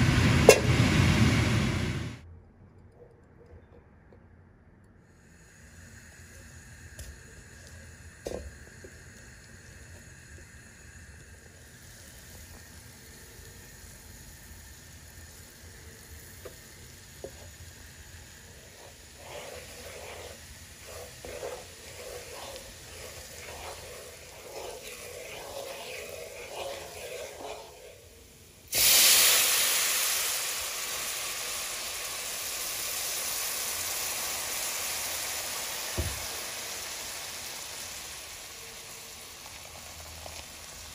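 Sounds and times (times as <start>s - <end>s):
flour and butter sizzling in a pan: 5.2s - 40.9s.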